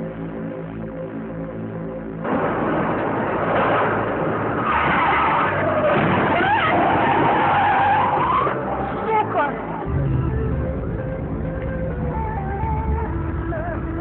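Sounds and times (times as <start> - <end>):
car road and wind noise: 2.1 - 14.0.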